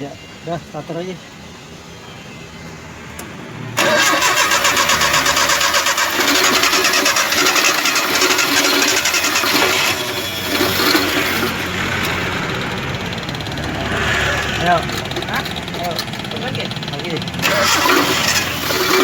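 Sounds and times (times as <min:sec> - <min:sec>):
starter motor cranking engine: 0:03.2 - 0:19.0.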